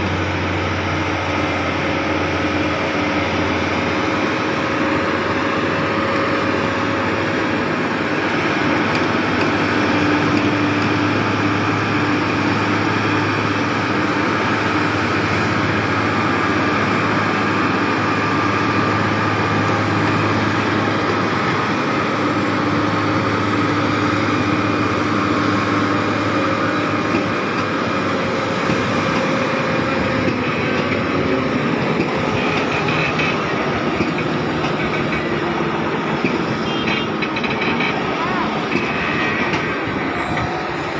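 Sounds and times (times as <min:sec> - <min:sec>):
truck diesel engine drone: 0:00.0 - 0:40.9.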